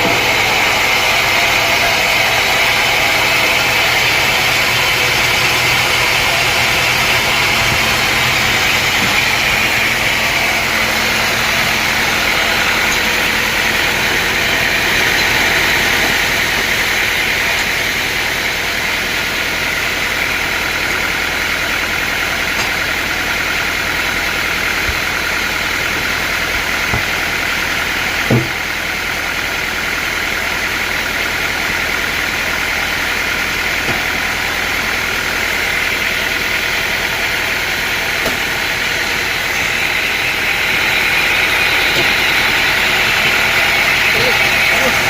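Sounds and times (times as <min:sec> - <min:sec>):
sawmill machinery drone: 0:00.0 - 0:45.0.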